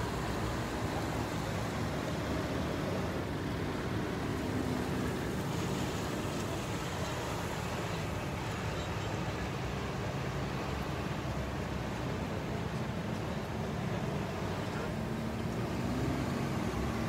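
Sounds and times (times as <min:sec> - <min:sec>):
trucks driving past: 0:00.0 - 0:17.0.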